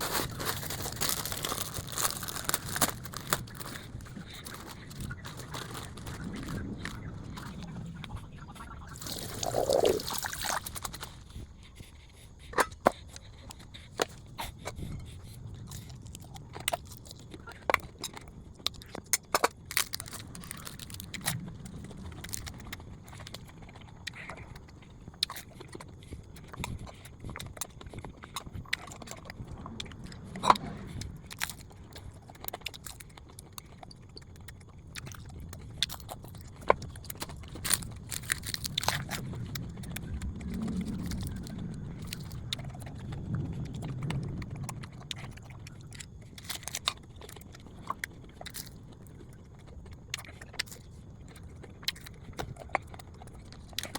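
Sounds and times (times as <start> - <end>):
person chewing and biting: 0.0 - 53.9.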